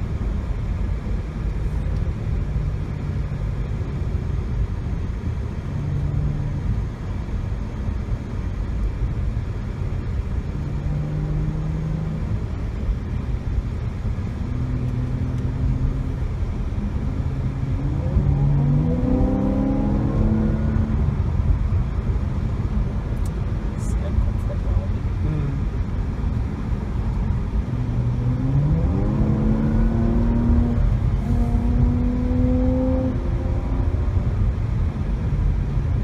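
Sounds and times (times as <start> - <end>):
car engine cruising: 0.0 - 36.0
road noise rumble: 0.0 - 36.0.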